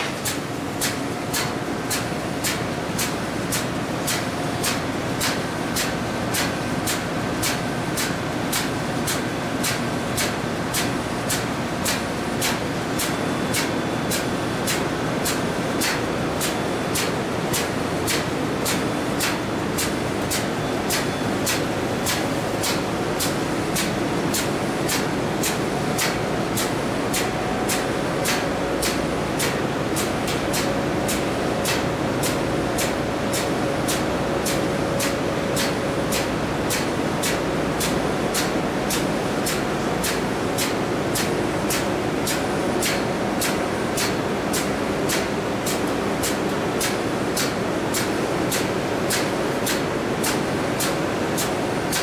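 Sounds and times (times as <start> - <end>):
engine-room machinery noise: 0.0 - 52.0.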